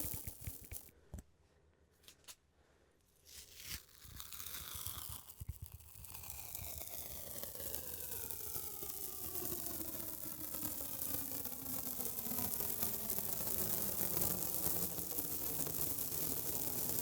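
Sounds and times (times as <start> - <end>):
tape being pulled out: 3.2 - 17.0.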